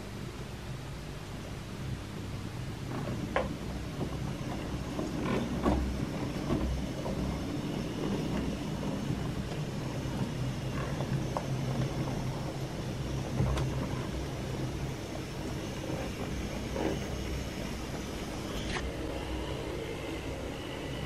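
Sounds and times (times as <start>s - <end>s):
electric motor hum: 2.7s - 21.0s
wheels clicking over rail joints: 2.8s - 21.0s.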